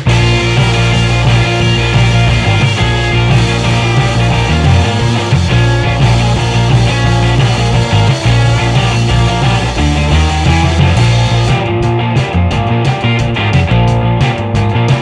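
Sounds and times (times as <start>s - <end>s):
bass line: 0.0s - 15.0s
electric guitar: 0.0s - 15.0s.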